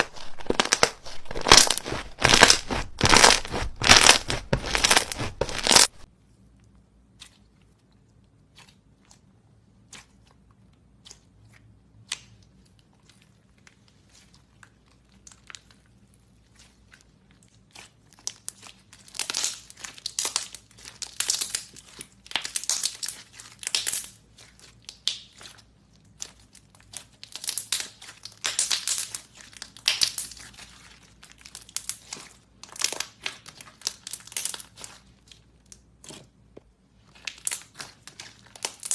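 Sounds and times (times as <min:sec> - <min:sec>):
slime squishing and crackling: 0:00.0 - 0:06.1, 0:08.4 - 0:38.9.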